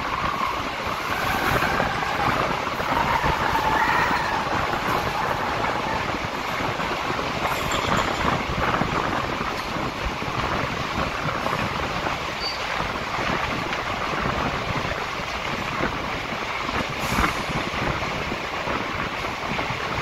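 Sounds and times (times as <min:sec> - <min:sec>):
train rushing through tunnel: 0:00.0 - 0:20.0.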